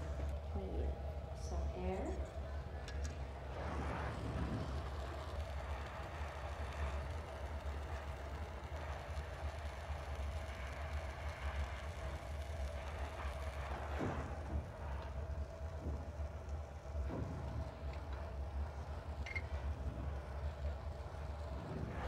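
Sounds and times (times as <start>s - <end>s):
gas torch flames hissing: 0.0s - 22.0s
low hum: 0.0s - 22.0s.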